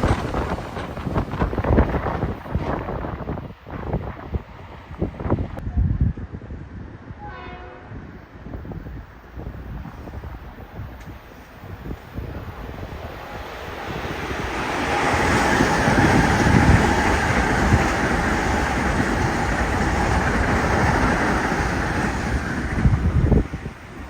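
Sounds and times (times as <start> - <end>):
train wheels rumbling on rail: 0.0 - 5.6, 6.2 - 24.0.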